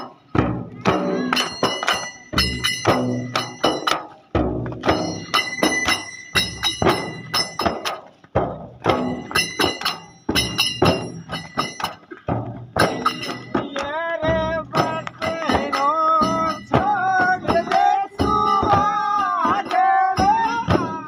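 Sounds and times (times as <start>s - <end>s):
frame drums beaten by hand: 0.0s - 21.0s.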